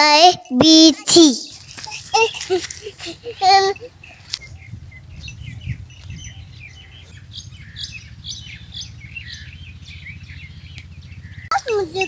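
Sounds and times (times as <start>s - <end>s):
small birds chirping: 0.2s - 12.0s
low steady rumble: 2.0s - 12.0s.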